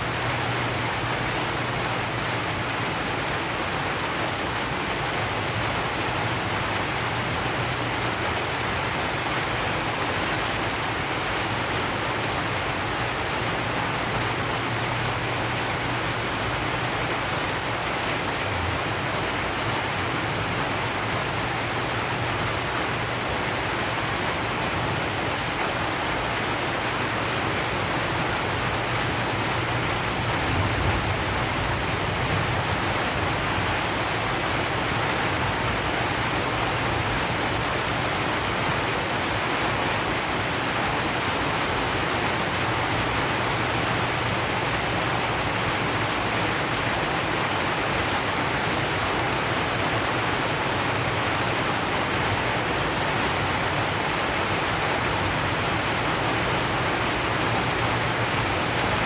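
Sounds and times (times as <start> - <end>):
rain drumming on metal roof: 0.0 - 59.0.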